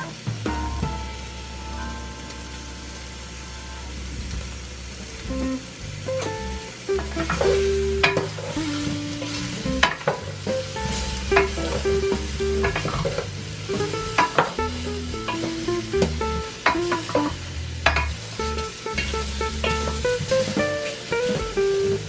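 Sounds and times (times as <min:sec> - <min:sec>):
light guitar music: 0:00.0 - 0:22.0
meat sizzling: 0:00.1 - 0:22.0.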